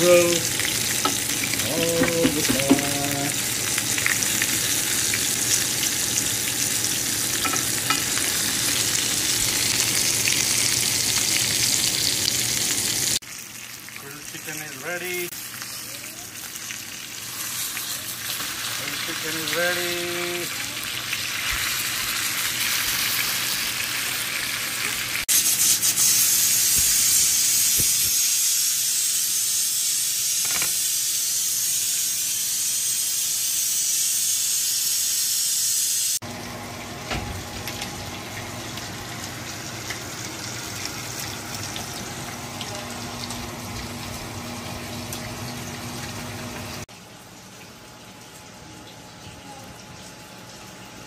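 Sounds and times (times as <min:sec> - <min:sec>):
chicken sizzling in oil: 0:00.0 - 0:51.0.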